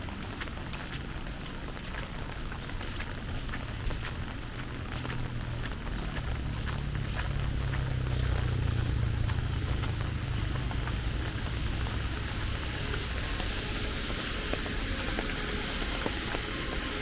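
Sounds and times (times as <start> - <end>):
passing traffic rumble: 0.0 - 17.0
rain: 0.0 - 17.0
tyres hissing on wet road: 0.0 - 17.0.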